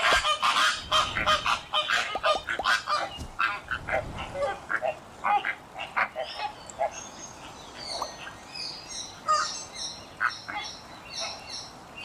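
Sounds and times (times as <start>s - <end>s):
low bird calls: 0.0s - 11.7s.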